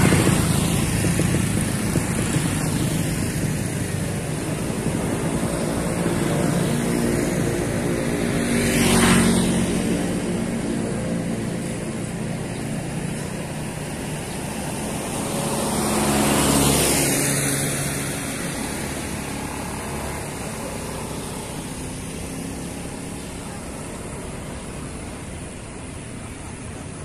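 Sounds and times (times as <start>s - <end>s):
vehicle passing by: 0.0s - 27.0s.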